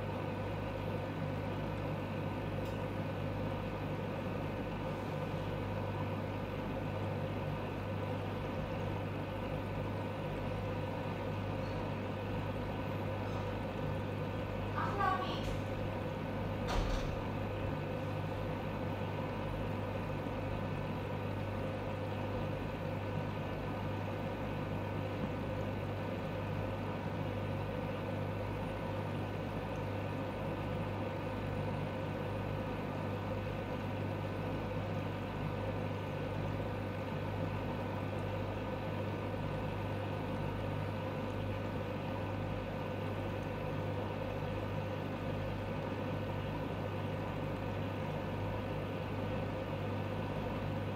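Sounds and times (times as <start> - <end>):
low machine hum: 0.0 - 50.9.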